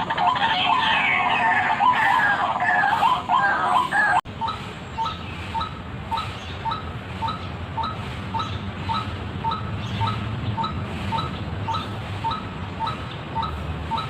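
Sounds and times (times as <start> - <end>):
two-pitched bird call: 0.0 - 14.0.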